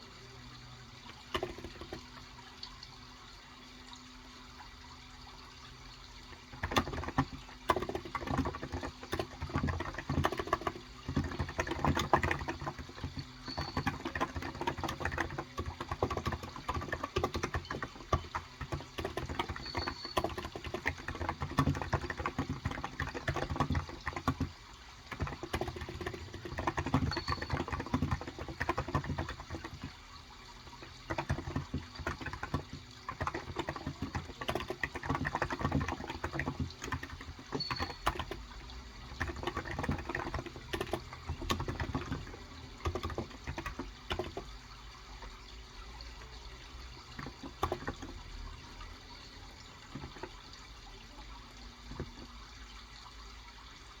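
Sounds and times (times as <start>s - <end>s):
running water: 0.0s - 54.0s
soft keyboard typing: 0.9s - 2.6s, 5.4s - 53.1s.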